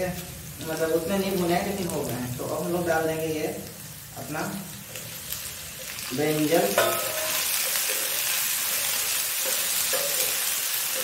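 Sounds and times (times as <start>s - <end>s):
eggplant sizzling in hot oil: 0.0s - 11.0s.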